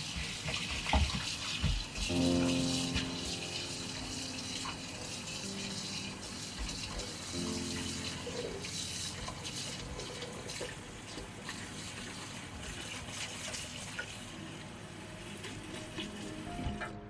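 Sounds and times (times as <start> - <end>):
tap water running into sink: 0.0 - 16.9.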